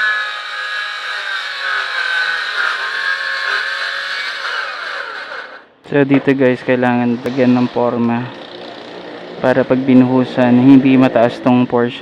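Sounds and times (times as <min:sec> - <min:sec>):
circular saw whining: 0:00.0 - 0:09.7.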